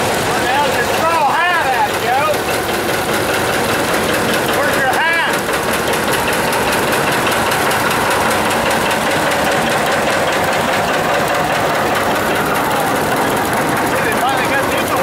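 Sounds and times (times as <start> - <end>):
tractor engine driving past: 0.0 - 15.0.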